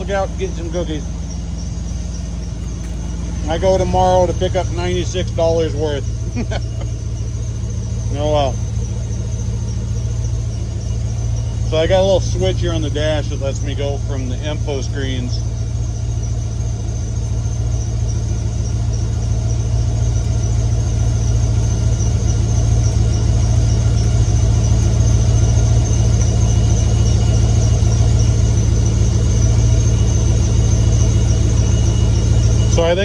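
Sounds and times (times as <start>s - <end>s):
car engine idling: 0.0s - 33.0s
drive belt squealing: 0.0s - 33.0s.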